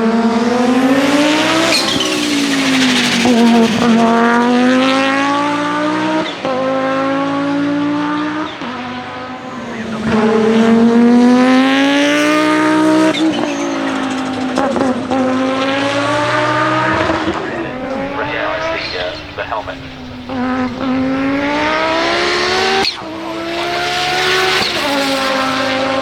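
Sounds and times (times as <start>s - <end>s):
racing engine accelerating hard: 0.0s - 26.0s.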